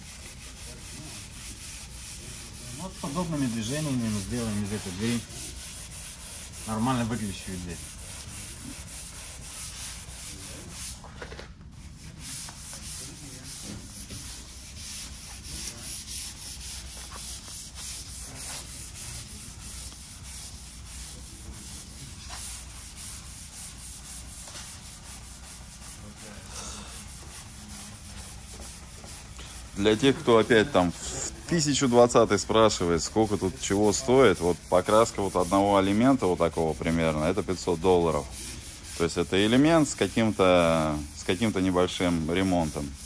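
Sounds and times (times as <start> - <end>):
sandpaper rubbing on car door: 0.0 - 11.1, 11.8 - 43.0.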